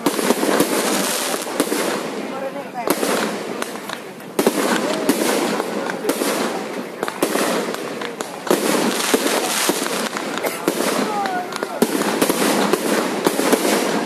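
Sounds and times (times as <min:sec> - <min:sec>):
firework bangs: 0:00.0 - 0:14.0
firework crackling: 0:00.0 - 0:14.0.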